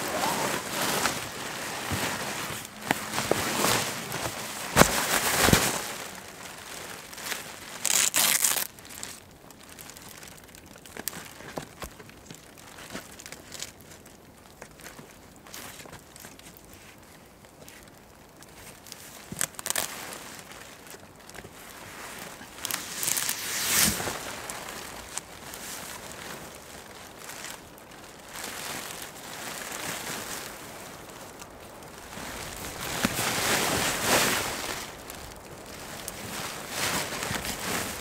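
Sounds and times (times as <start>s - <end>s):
fabric rustling and crinkling: 0.0s - 38.0s.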